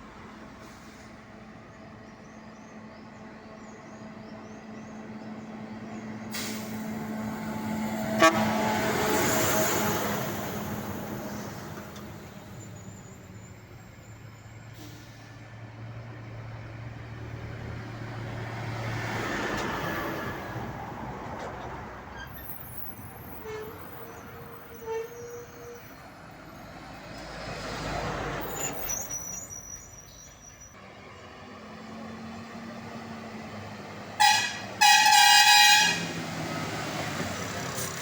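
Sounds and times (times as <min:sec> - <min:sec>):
trucks passing on road: 0:00.0 - 0:38.0.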